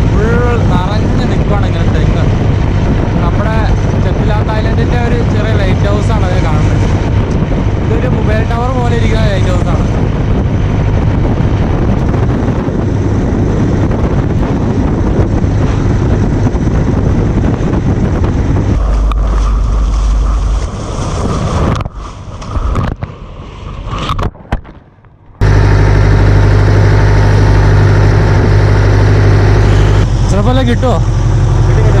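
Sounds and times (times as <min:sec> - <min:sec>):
boat engine running: 0:00.0 - 0:23.0, 0:25.4 - 0:32.0
wind and water rushing: 0:00.0 - 0:24.6, 0:25.4 - 0:32.0
gusty wind noise: 0:00.0 - 0:32.0.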